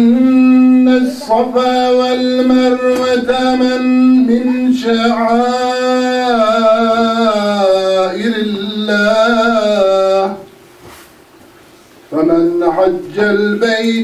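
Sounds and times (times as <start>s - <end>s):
man chanting recitation: 0.0s - 10.5s, 12.1s - 14.0s.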